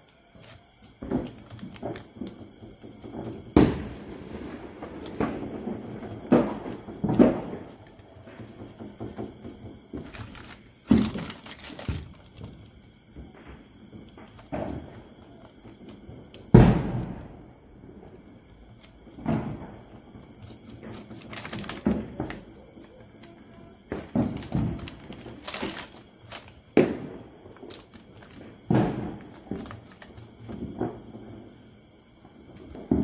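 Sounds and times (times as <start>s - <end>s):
crickets chirring: 0.0s - 33.0s
thumps and bangs: 0.4s - 31.3s.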